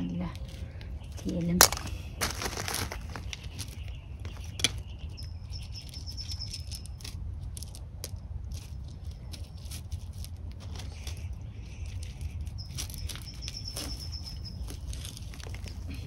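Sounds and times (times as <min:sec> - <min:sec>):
plants and gravel rustling: 0:00.0 - 0:16.0.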